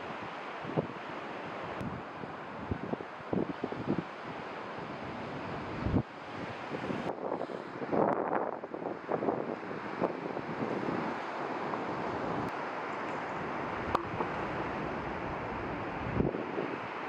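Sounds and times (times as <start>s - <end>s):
wind buffeting microphone: 1.6s - 12.5s, 13.1s - 17.0s.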